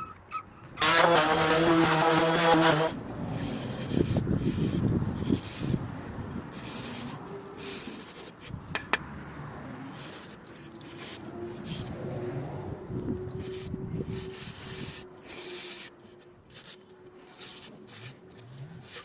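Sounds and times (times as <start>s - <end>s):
hand sanding wood: 0.8s - 8.9s, 9.8s - 12.0s, 13.1s - 19.0s.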